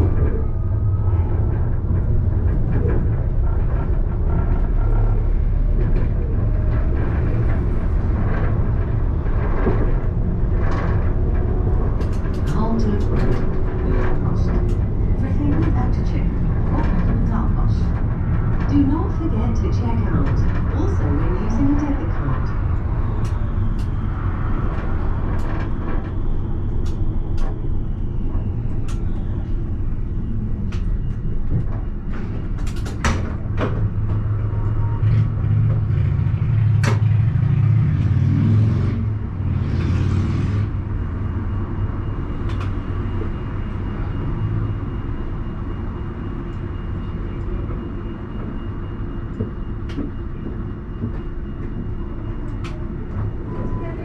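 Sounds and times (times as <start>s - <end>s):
tram hum: 0.0s - 54.0s
tram rumble: 0.0s - 54.0s.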